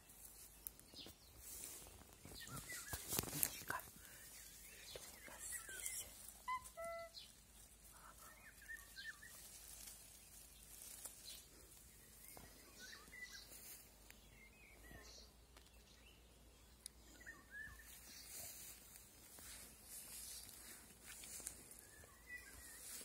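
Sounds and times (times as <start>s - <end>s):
faint songbird song: 0.0s - 23.0s.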